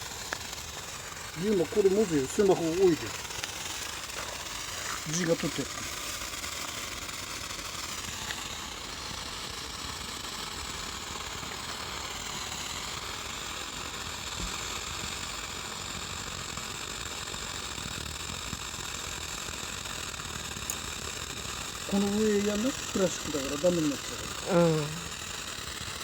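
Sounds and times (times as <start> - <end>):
firework sparks hissing and crackling: 0.0 - 26.0.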